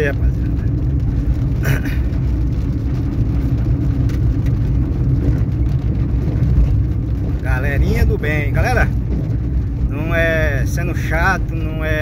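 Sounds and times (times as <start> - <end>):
car engine and tyres drone: 0.0 - 12.0.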